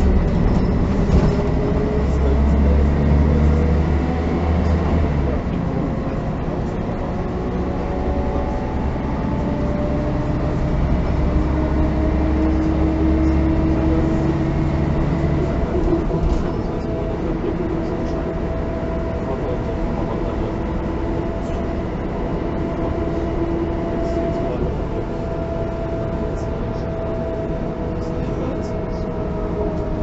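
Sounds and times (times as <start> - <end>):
bus engine idling: 0.0 - 30.0.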